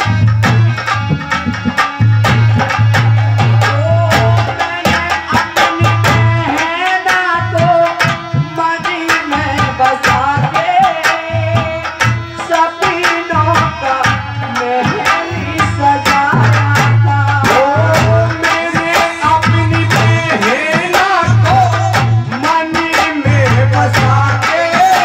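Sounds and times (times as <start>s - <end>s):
hand drums beating: 0.0s - 25.0s.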